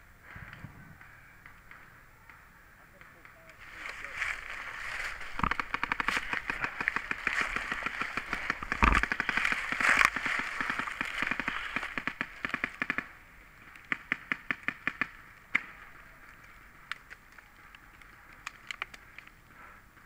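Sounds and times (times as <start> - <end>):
paintball markers firing: 3.0 - 19.2.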